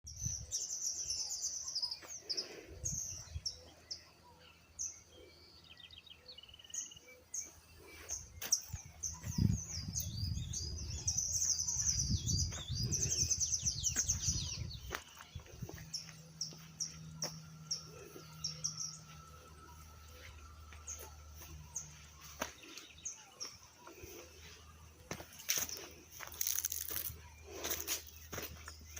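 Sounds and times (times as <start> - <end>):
birds chirping and singing: 0.1 - 28.9.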